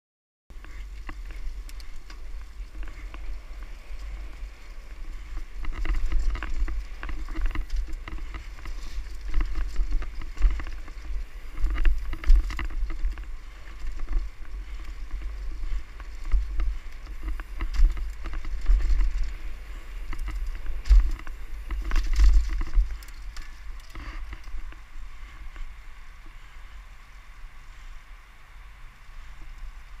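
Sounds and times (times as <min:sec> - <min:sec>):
tyres on dirt and leaves: 0:00.5 - 0:27.9
wind buffeting microphone: 0:00.5 - 0:30.0
bike clattering over bumps: 0:00.6 - 0:25.6.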